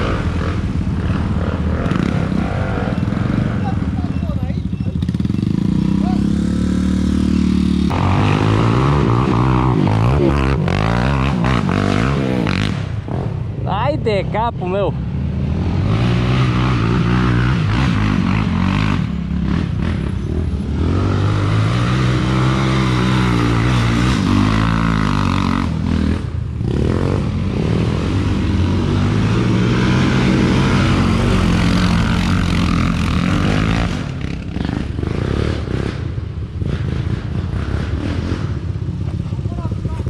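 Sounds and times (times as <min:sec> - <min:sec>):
atv engine revving: 0:00.0 - 0:40.0.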